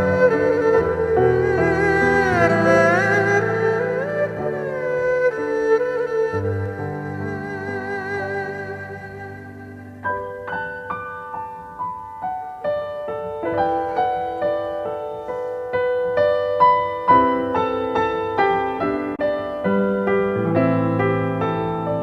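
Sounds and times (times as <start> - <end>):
slow piano melody: 0.0 - 22.0.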